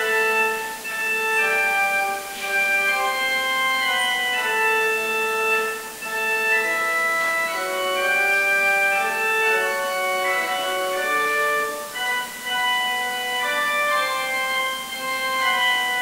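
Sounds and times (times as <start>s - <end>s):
church organ playing: 0.0s - 16.0s.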